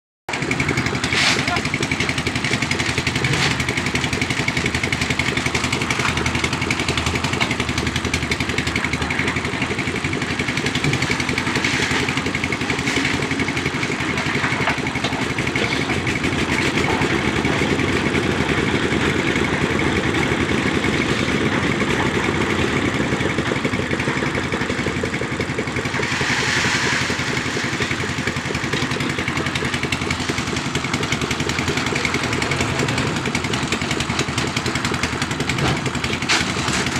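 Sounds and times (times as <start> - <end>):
concrete mixer engine running: 0.3 - 36.9.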